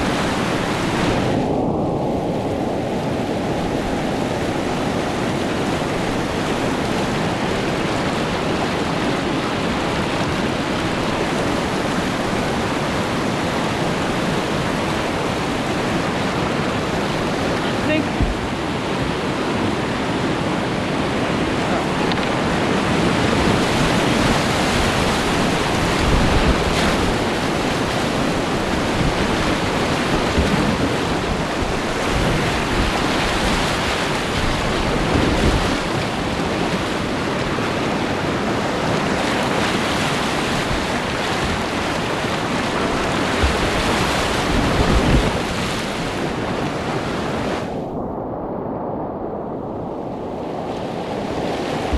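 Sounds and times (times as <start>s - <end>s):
whitewater rushing and splashing: 0.0s - 47.9s, 50.1s - 51.9s
wind buffeting microphone: 0.0s - 51.9s.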